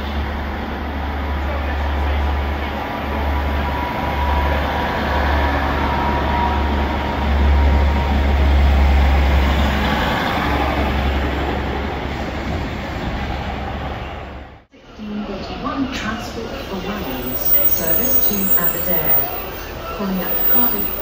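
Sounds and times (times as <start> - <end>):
train engine and wheels rumbling: 0.0 - 21.0.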